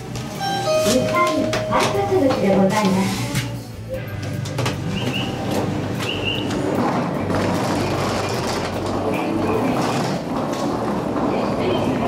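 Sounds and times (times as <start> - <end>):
train door sliding open: 0.0 - 12.0
train equipment humming: 0.0 - 12.0.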